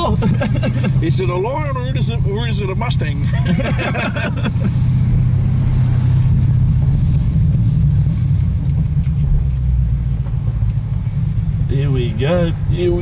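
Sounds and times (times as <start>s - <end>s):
deep car engine idling: 0.0s - 13.0s.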